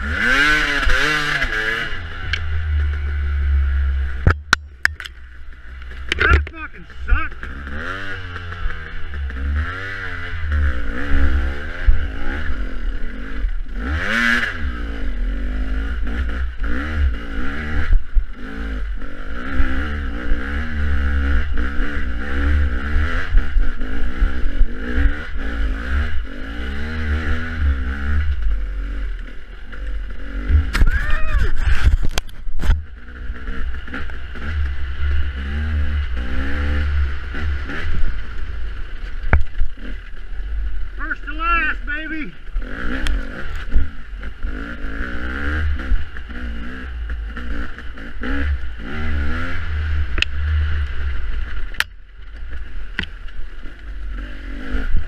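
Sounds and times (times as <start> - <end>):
dirt bike engine revving: 0.0 - 51.9, 52.5 - 55.0.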